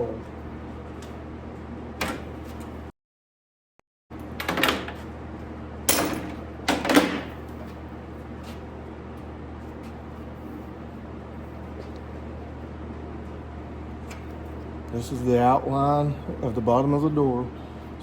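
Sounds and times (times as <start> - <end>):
low shop hum: 0.0 - 3.0, 4.1 - 18.0.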